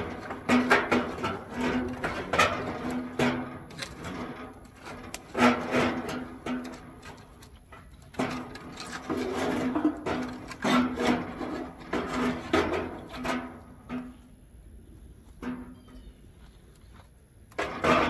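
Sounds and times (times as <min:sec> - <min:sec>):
wood scraping steel firebox: 0:00.0 - 0:18.0.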